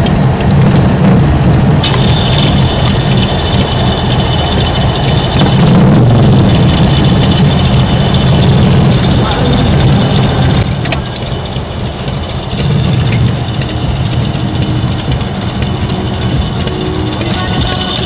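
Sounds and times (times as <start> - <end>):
motorcycle engine rumbling: 0.0 - 18.0
thin high whine: 1.8 - 18.0.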